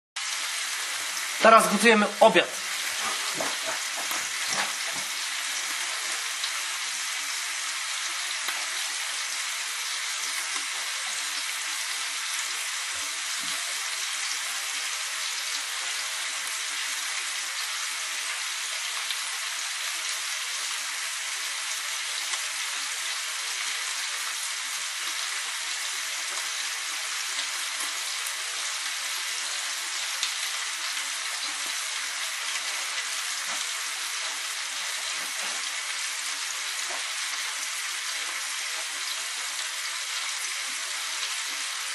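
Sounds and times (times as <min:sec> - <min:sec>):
meat sizzling in a frying pan: 0:00.2 - 0:41.9.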